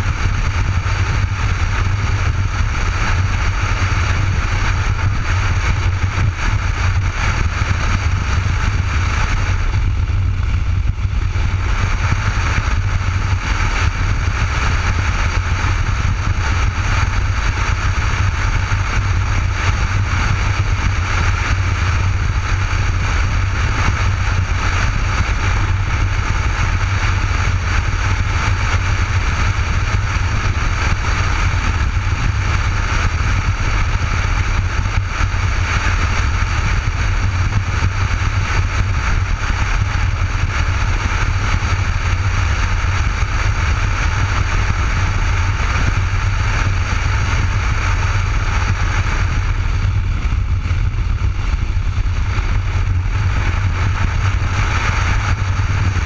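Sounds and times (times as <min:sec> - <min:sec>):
wind and motorcycle engine drone: 0:00.0 - 0:56.0.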